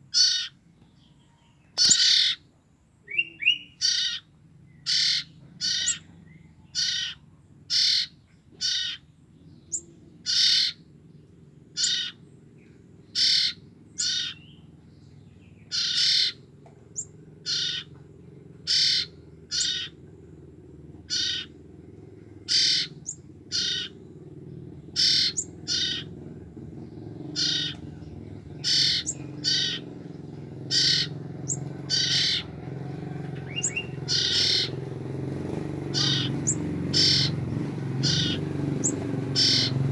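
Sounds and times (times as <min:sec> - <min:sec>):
bird chicks calling: 0:00.0 - 0:39.9.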